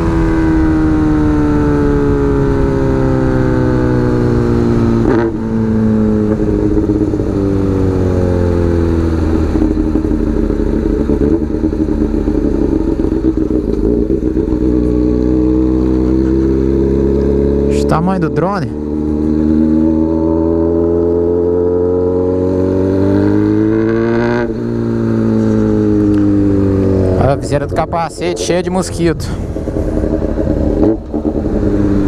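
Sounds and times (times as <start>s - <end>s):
motorcycle engine slowing: 0.0s - 32.0s.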